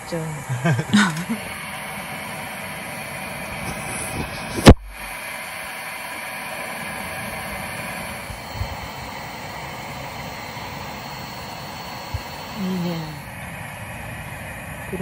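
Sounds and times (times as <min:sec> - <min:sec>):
hot water pouring from kettle: 0:01.1 - 0:13.4.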